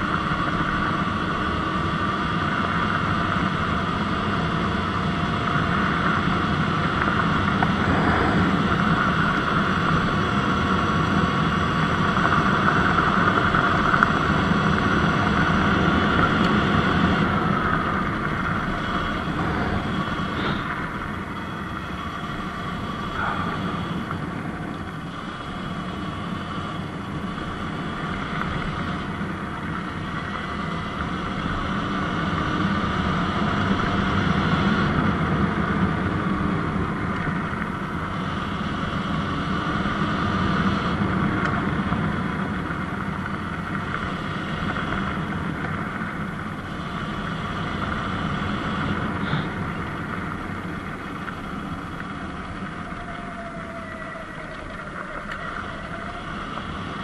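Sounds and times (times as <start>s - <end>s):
electric motor and tyre noise: 0.0s - 57.0s.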